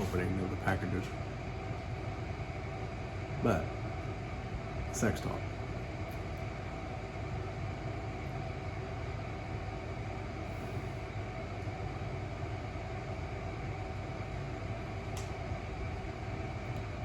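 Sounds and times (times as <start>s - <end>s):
mechanical hum with hiss: 0.0s - 17.0s.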